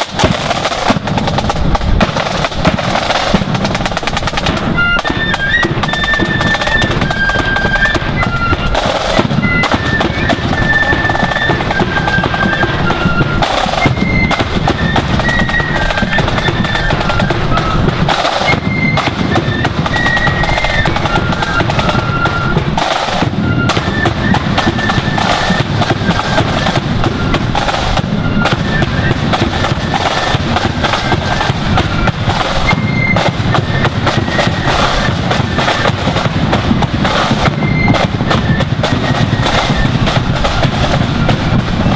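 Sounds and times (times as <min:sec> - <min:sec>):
flutes playing melody: 0:00.0 - 0:41.9
rolling snare drums: 0:00.0 - 0:41.9.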